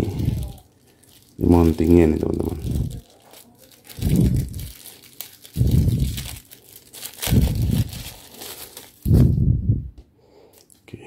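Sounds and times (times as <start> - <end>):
plastic wrap crinkling: 0.0 - 9.4.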